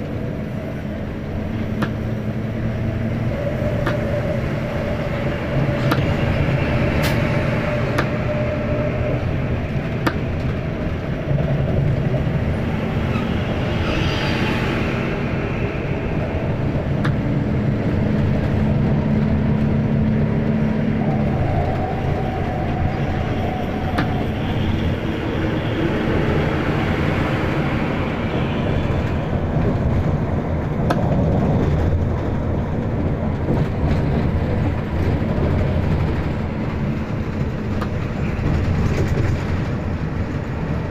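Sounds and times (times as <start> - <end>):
bus engine hum: 0.0 - 40.9.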